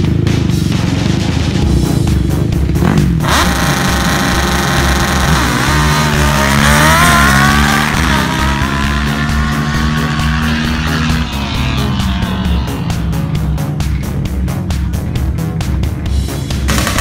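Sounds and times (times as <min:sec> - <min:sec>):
quad engines revving high: 0:00.0 - 0:14.1, 0:16.6 - 0:17.0.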